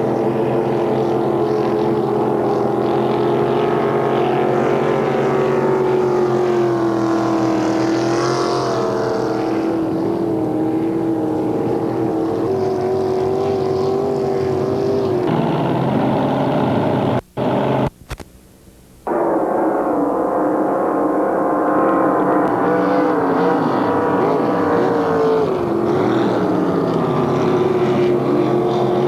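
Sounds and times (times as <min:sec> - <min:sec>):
powerboat engine running: 0:00.0 - 0:18.2, 0:19.0 - 0:29.0.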